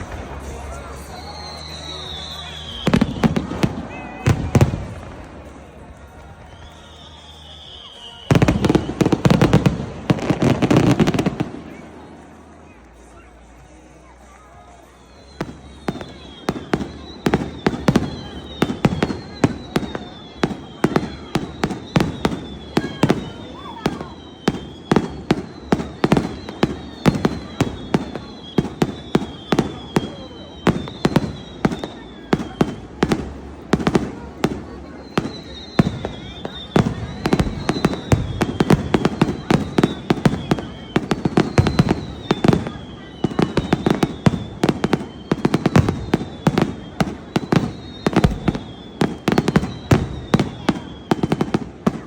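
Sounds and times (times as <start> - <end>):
thin high whistle: 0.0 - 11.8, 13.1 - 33.4, 34.8 - 52.0
fireworks bangs: 0.0 - 52.0.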